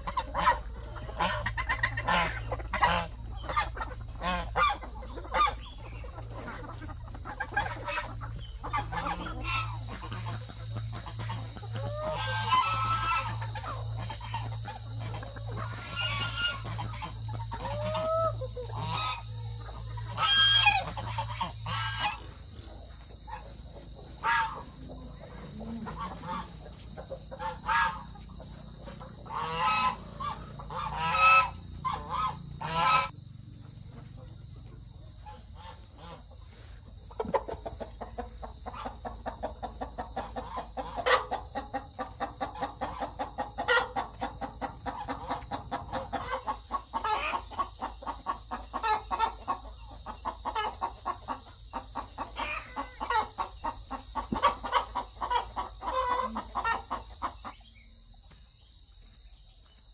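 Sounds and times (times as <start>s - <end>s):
chickens clucking: 0.0s - 58.6s
high insect drone: 0.0s - 59.9s.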